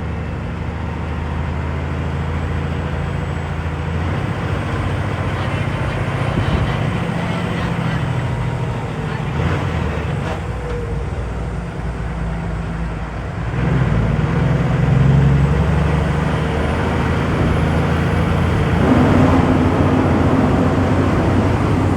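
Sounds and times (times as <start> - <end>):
road noise: 0.0 - 21.9
truck engine running: 0.0 - 21.9.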